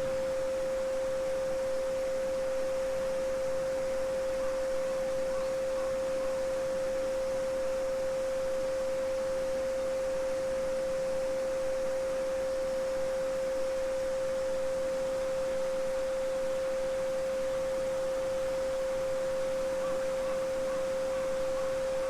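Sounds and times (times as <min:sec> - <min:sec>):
steady pure sine tone: 0:00.0 - 0:22.0.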